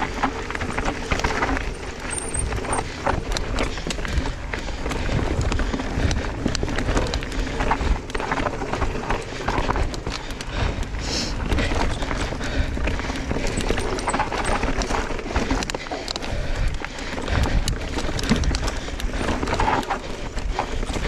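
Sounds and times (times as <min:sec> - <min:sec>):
bike rattling clicks and knocks: 0:00.0 - 0:21.0
tyre and wind rumble: 0:00.0 - 0:21.0.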